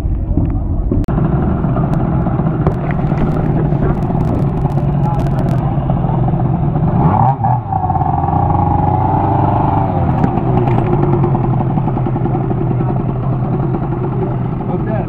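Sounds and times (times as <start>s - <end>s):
motorcycle engines droning: 0.0s - 15.0s
scooter engine revving: 1.1s - 15.0s.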